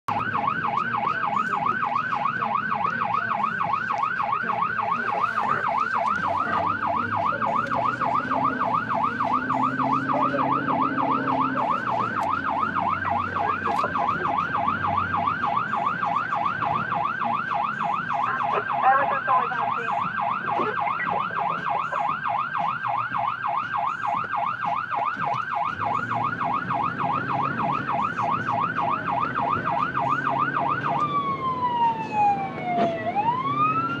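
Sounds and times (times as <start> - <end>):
fire engine siren yelping: 0.1 - 34.0
truck engine running: 0.1 - 34.0.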